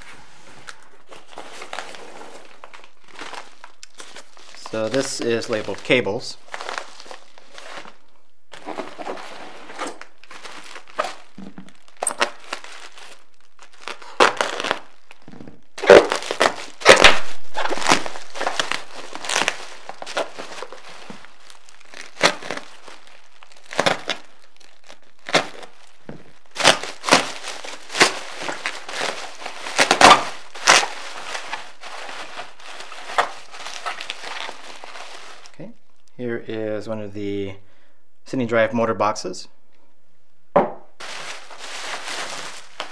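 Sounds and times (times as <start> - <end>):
bubble wrap crinkling: 0.0 - 36.1, 41.0 - 42.9.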